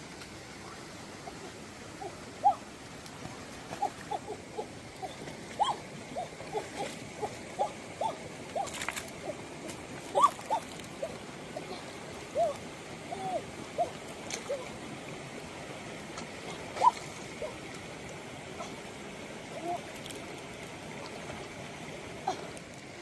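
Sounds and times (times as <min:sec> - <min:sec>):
shallow rocky stream running: 0:00.0 - 0:23.0.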